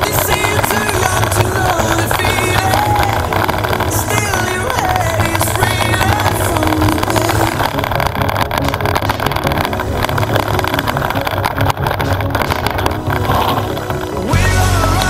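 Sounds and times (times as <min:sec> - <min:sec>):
tyres rolling on dirt: 0:00.0 - 0:15.0.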